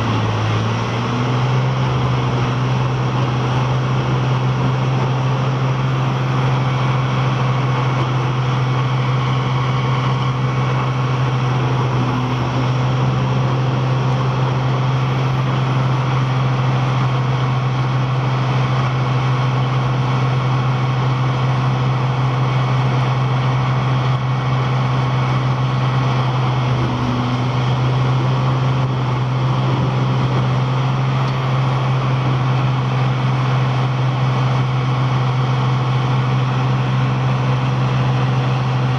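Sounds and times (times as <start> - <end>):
heavy machine engine humming: 0.0 - 38.9.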